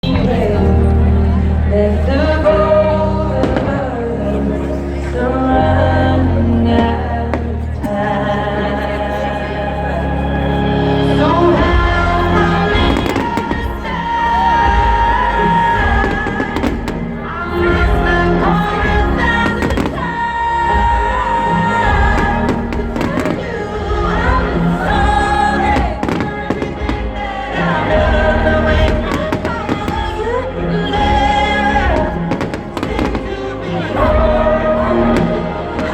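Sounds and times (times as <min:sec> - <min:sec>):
music with long held notes: 0:00.0 - 0:35.9.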